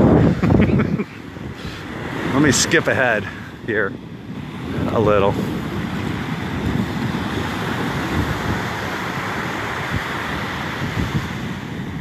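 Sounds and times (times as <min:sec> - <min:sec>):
small waves washing up beach: 0:00.0 - 0:12.0
wind buffeting microphone: 0:00.0 - 0:12.0.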